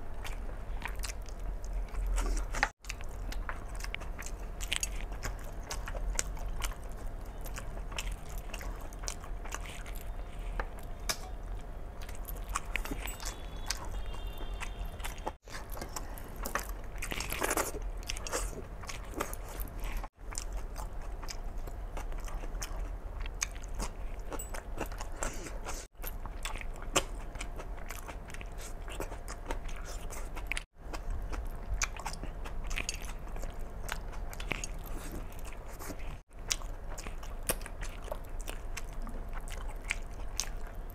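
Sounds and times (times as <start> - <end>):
man chewing food: 0.0 - 40.9.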